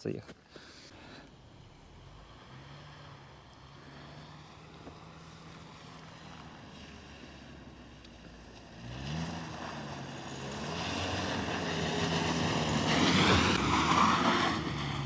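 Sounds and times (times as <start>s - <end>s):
car engine revving: 1.1s - 15.0s.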